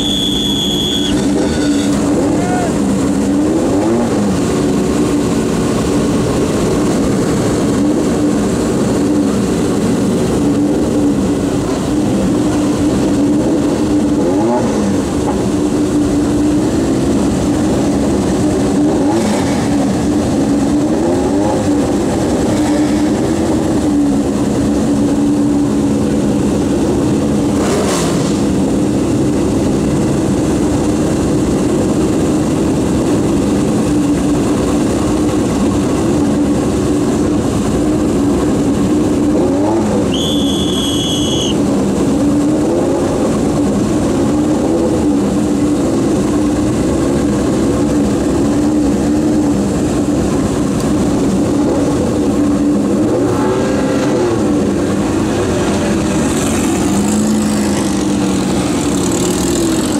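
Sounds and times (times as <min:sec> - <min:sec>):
racing car engines idling: 0:00.0 - 0:53.2
engine throttle blips: 0:00.0 - 0:59.9.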